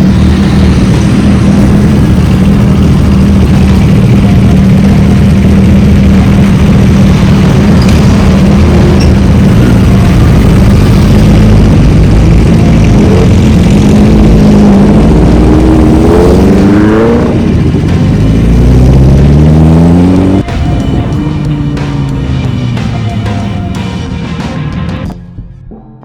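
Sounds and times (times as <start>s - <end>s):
motorcycle engine accelerating: 0.0s - 25.1s.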